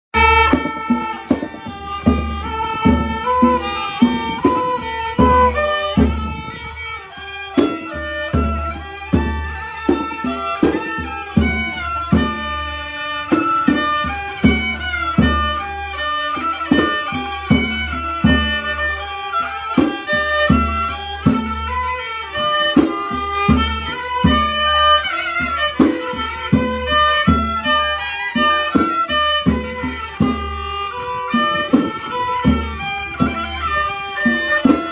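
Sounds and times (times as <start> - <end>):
driving drum beat: 0.2 - 18.9, 19.5 - 34.9
bowed fiddle melody: 0.2 - 34.9.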